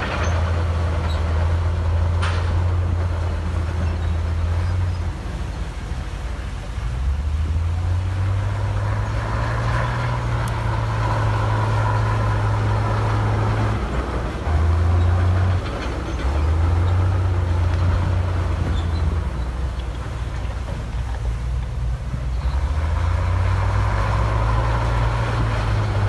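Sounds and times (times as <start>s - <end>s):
heavy diesel machine engine drone: 0.0s - 26.0s.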